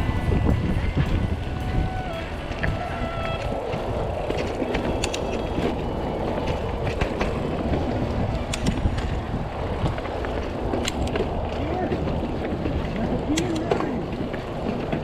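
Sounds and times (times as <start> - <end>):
bike clicking and rattling over bumps: 0.0 - 15.0
bike tyres rumbling on dirt: 0.0 - 15.0.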